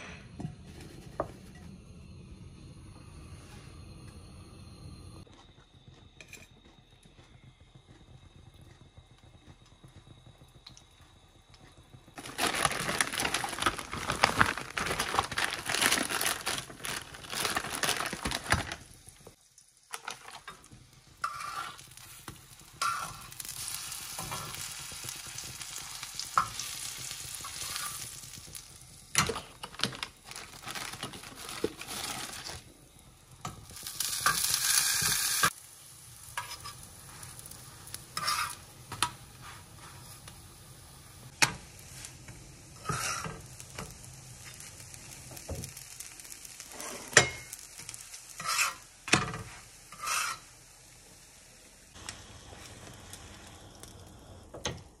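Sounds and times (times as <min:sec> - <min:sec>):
food sizzling in frying pan: 0:09.8 - 0:54.7.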